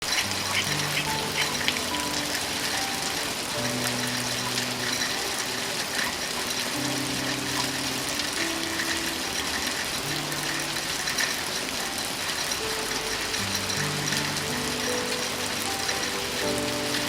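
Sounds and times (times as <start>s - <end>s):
soft low sustained music: 0.0s - 17.0s
steady rain: 0.0s - 17.0s.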